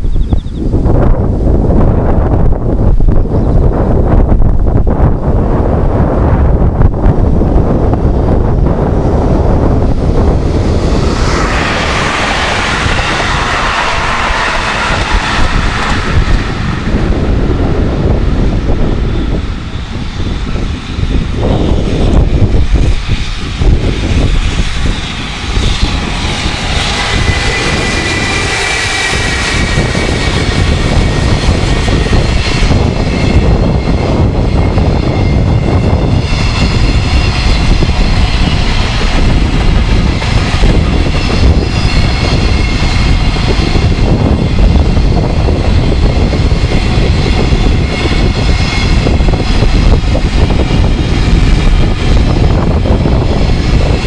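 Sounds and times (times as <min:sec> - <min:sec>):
freight train rumbling past: 0:00.0 - 0:54.0
high whine of locomotive: 0:00.0 - 0:54.0
wind buffeting microphone: 0:00.0 - 0:54.0.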